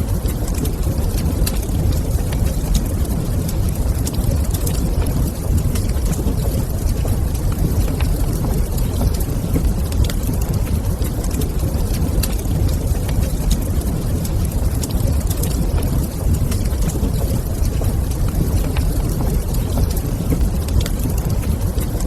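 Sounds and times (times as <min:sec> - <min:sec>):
fire popping and snapping: 0:00.0 - 0:22.0
low fire rumble: 0:00.0 - 0:22.0.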